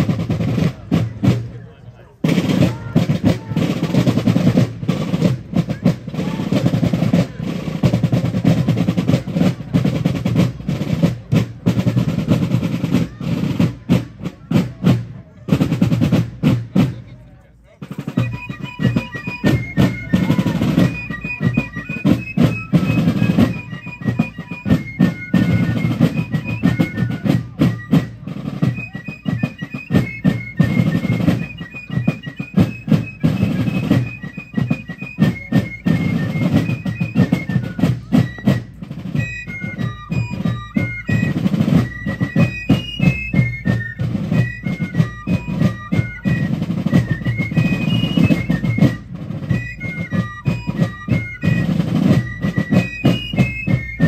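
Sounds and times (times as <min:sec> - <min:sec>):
snare drum rolls: 0:00.0 - 0:17.1, 0:17.8 - 0:54.0
shrill fifes playing melody: 0:00.0 - 0:54.0.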